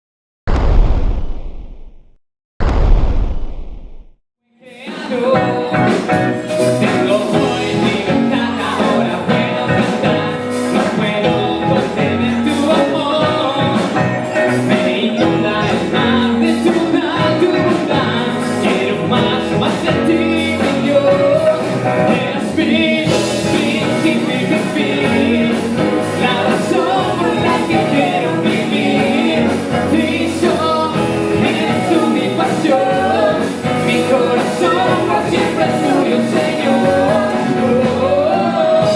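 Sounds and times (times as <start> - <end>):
person singing: 4.5 - 38.9
full band playing: 4.8 - 38.9.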